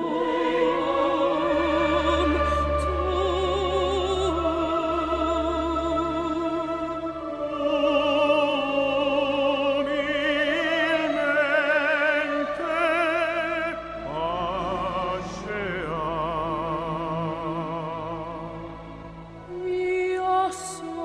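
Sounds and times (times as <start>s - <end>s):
operatic singing: 0.0s - 21.0s.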